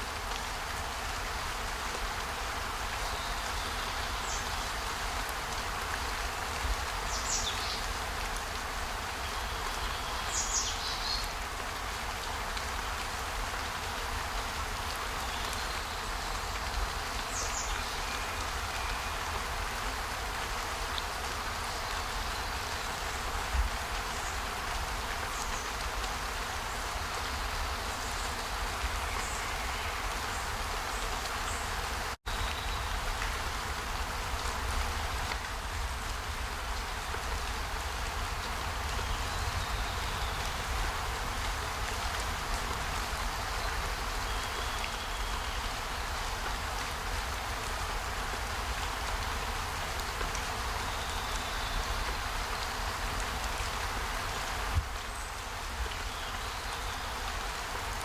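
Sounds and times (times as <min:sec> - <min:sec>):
outdoor hiss: 0:00.0 - 0:58.0.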